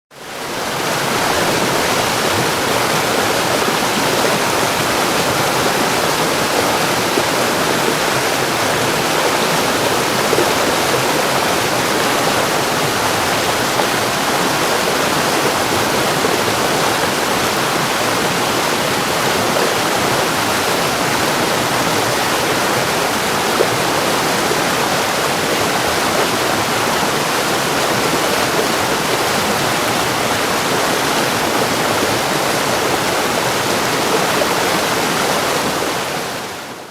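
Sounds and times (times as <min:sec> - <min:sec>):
waterfall pouring and splashing: 0:00.1 - 0:36.9.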